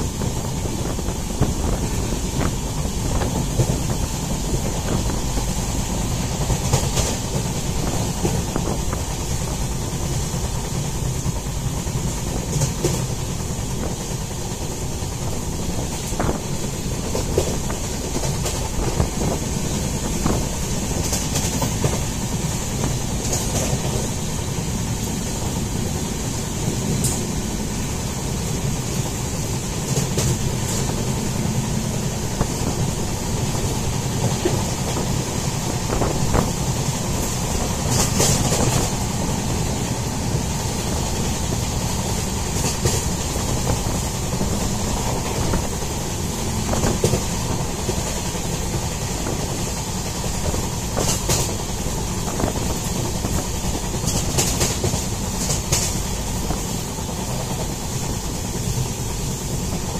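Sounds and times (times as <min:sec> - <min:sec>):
train clicks and knocks: 0:00.0 - 0:59.9
train rumbling: 0:00.0 - 0:59.9.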